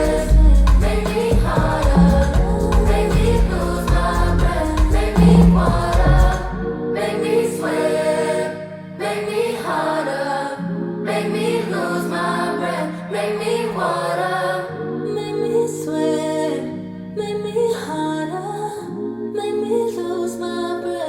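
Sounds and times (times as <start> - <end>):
pop song with female vocals: 0.0 - 21.0.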